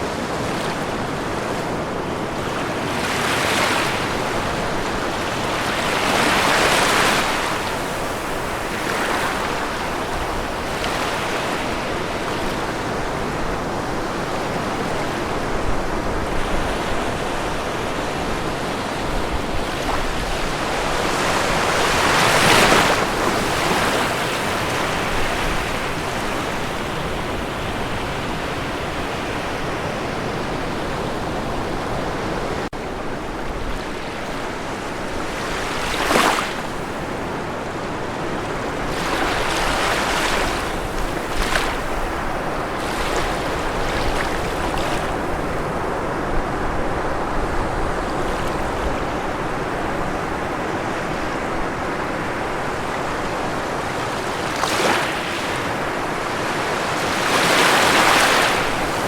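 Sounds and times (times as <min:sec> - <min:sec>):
ocean waves washing onto shore: 0:00.0 - 0:59.0.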